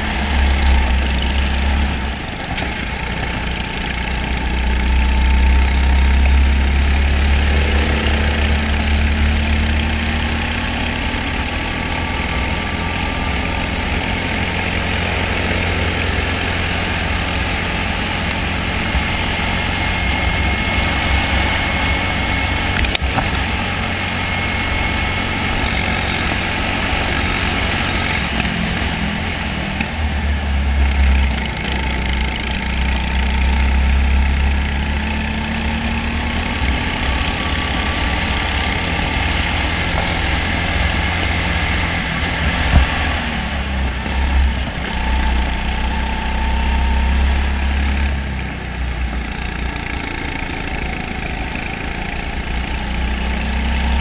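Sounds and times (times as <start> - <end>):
go-kart engine racing: 0.0 - 54.0.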